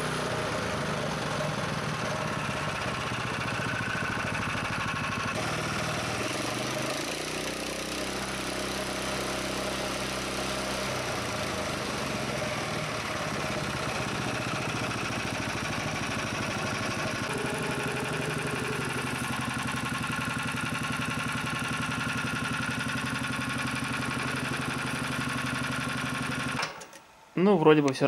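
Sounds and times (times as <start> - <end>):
small petrol engine idling: 0.0 - 26.6.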